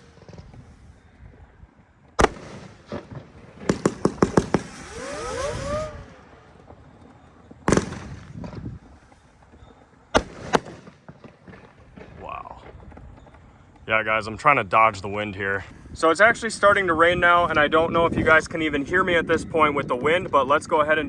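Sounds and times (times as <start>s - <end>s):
firework bangs: 0.0s - 19.1s
rising and falling firework tones: 0.0s - 21.0s.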